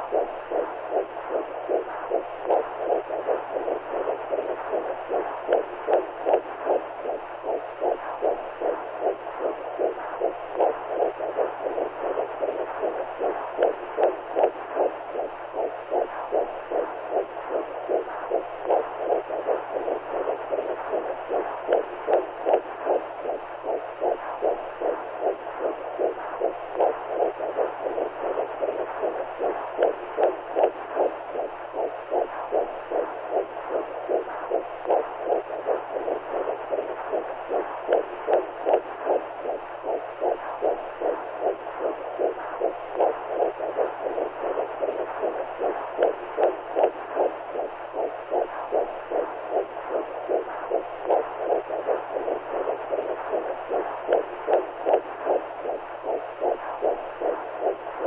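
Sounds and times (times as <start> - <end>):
muffled hiss: 0.0 - 58.0
whooshing heartbeat pulses: 0.0 - 58.0.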